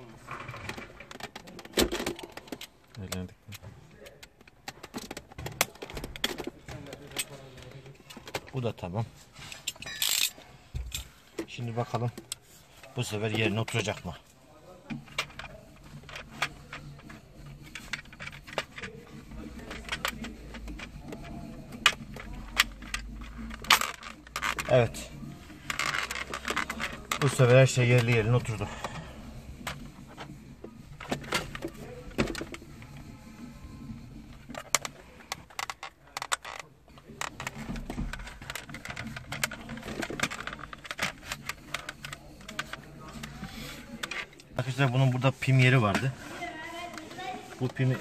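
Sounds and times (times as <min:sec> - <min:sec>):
plastic parts clicking and knocking: 0:00.0 - 0:48.0.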